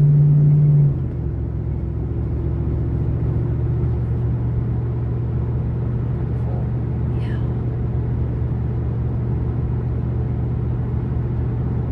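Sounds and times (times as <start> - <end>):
car engine drone: 0.0 - 11.9.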